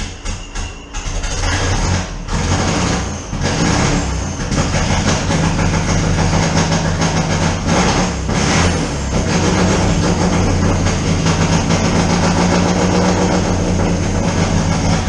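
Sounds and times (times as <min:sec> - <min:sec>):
race car engine running rough: 0:00.0 - 0:15.0.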